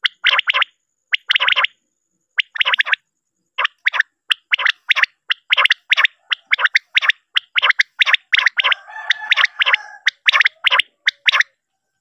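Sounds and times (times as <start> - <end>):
quail calling: 0.0 - 1.8, 2.4 - 3.0, 3.6 - 11.6.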